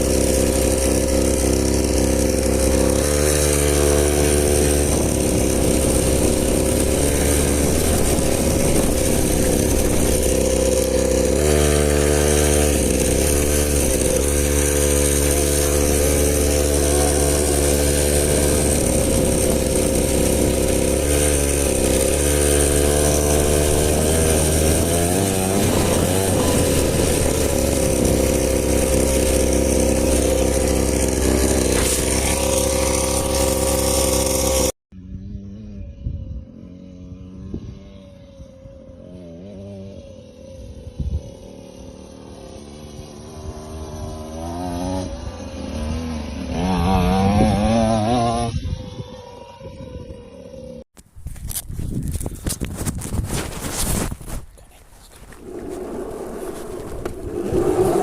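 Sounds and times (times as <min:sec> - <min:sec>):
dirt bike engine at high revs: 0:00.0 - 0:51.5, 0:52.9 - 0:58.0.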